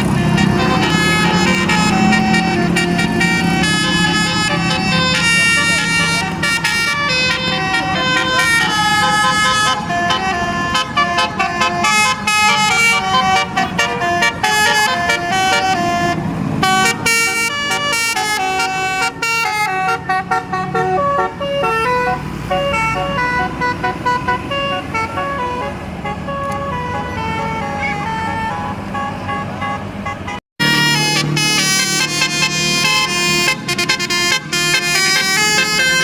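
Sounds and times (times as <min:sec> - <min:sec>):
multi-tone bus horn melody: 0:00.0 - 0:36.0.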